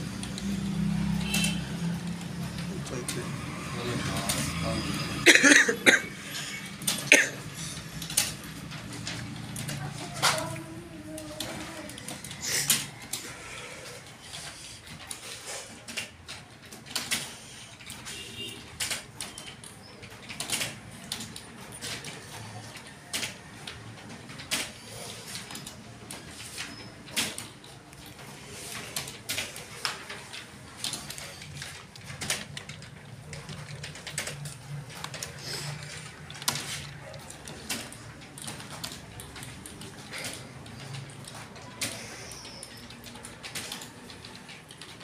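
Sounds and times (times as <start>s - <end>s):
keystrokes on computer keyboard: 0.0s - 45.0s.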